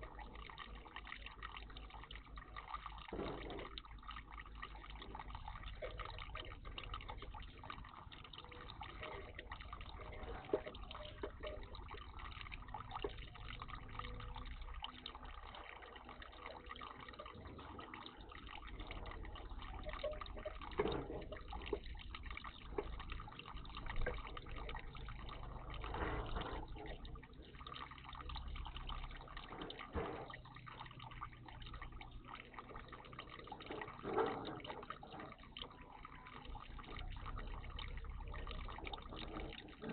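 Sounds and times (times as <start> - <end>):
water splashes: 0.0 - 39.9
water trickling and dripping: 0.0 - 39.9.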